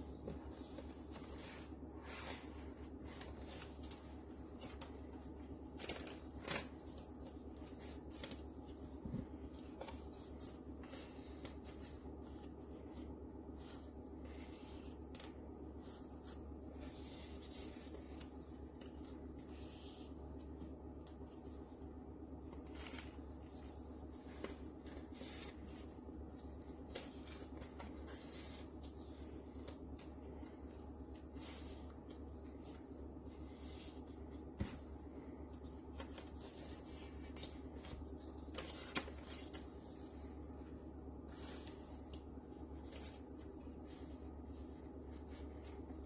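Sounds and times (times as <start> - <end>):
paper rustling and sliding: 0.0 - 46.0
steady low hum: 0.0 - 46.0.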